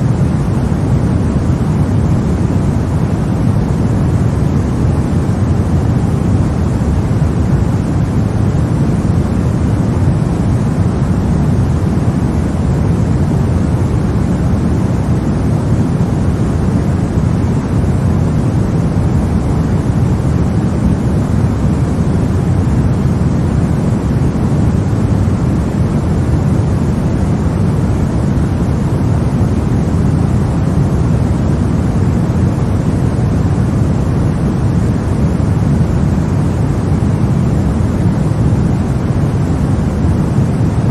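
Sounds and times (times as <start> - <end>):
deep steady hushing noise: 0.0 - 40.9.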